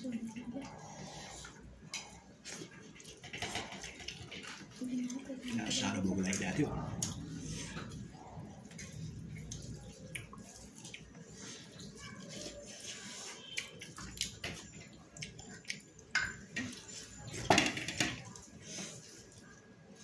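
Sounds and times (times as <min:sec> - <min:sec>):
rice squishing on a steel plate: 0:00.0 - 0:20.0
wet chewing and mouth smacks: 0:00.2 - 0:17.2.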